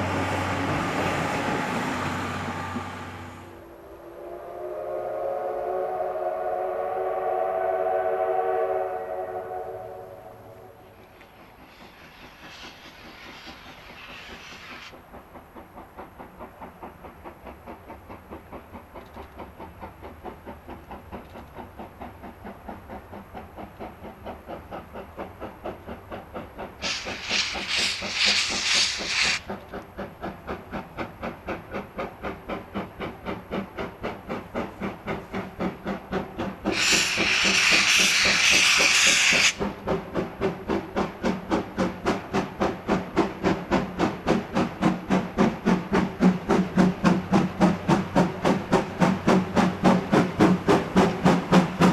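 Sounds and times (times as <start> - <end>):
steam hissing: 0.0 - 18.9, 19.6 - 51.9
steam locomotive exhaust chuffing: 0.0 - 51.9.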